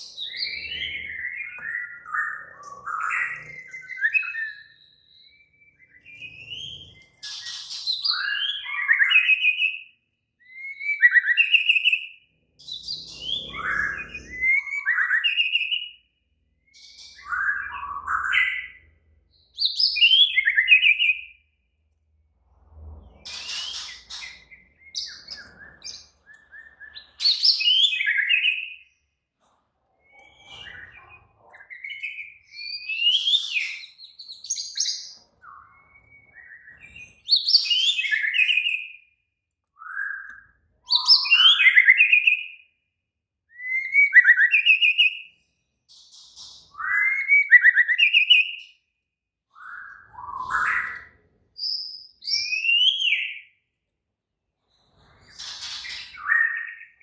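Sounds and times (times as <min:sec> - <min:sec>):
bird singing whistles and trills: 0:00.0 - 0:21.4, 0:23.3 - 0:29.0, 0:30.0 - 0:39.2, 0:39.8 - 0:42.8, 0:43.4 - 0:48.8, 0:49.5 - 0:53.7, 0:55.3 - 0:57.0.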